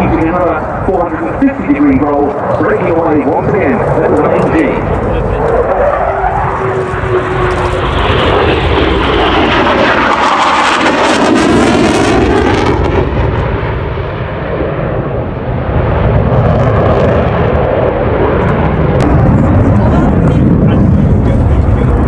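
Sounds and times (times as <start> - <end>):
jet aircraft passing: 0.0 - 22.0.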